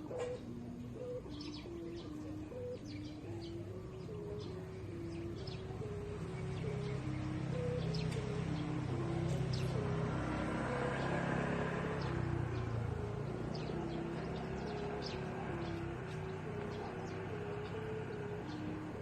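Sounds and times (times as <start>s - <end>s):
birds chirping: 0.0s - 19.0s
kite hummer droning: 0.0s - 19.0s.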